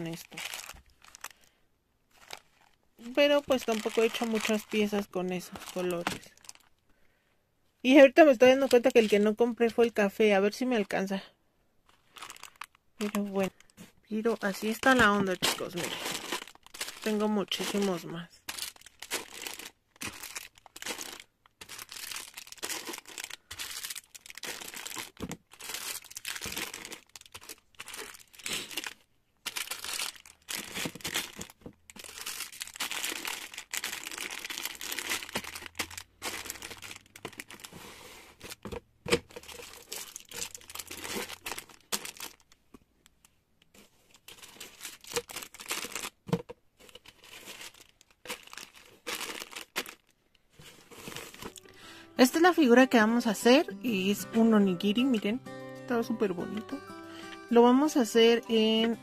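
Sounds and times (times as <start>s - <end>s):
plastic bags crinkling: 0.0s - 6.8s, 8.4s - 9.8s, 11.9s - 55.4s.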